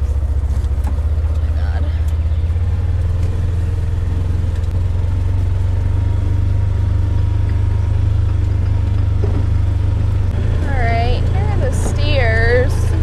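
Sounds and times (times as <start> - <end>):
utility vehicle engine rumbling: 0.0 - 13.0.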